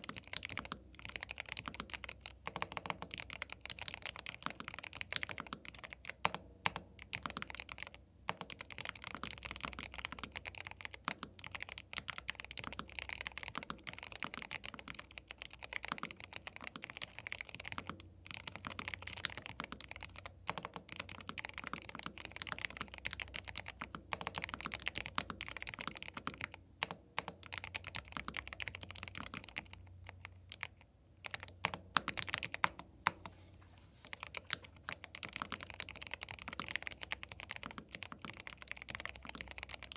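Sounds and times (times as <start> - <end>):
mechanical keyboard typing: 0.0 - 33.3, 34.1 - 39.9.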